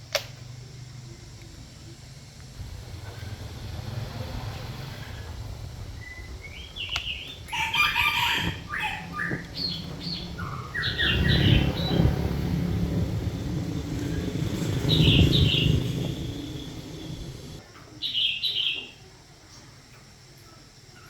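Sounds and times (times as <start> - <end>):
low rumble: 0.0 - 17.6
small birds chirping: 0.0 - 21.0.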